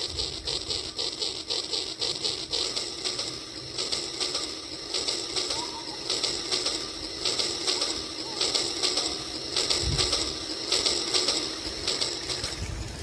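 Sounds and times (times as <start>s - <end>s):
toy train steam chuffs: 0.0s - 13.0s.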